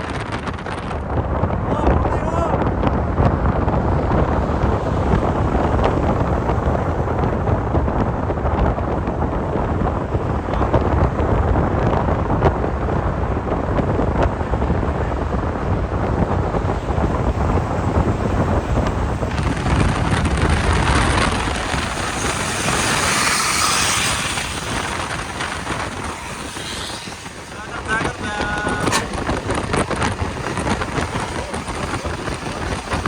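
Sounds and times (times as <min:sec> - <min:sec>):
vehicle rumbling: 0:00.0 - 0:33.0
wind buffeting microphone: 0:00.0 - 0:33.0.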